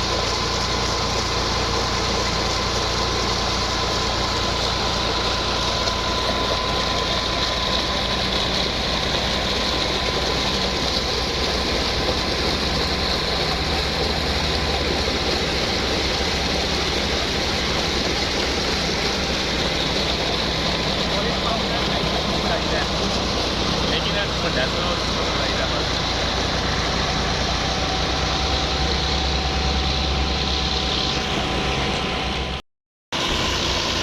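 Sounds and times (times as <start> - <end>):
faint steady whine: 0.0 - 32.6
tractor engine running: 0.0 - 34.0.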